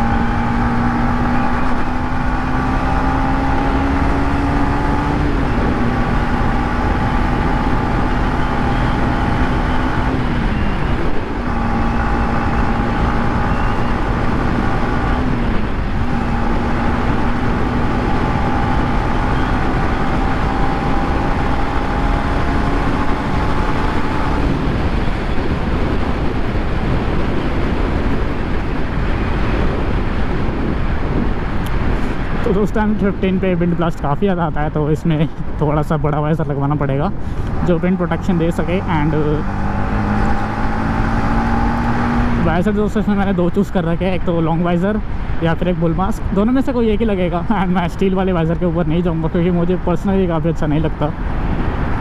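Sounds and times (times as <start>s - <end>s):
motorcycle engine cruising: 0.0s - 52.0s
wind rush: 0.0s - 52.0s.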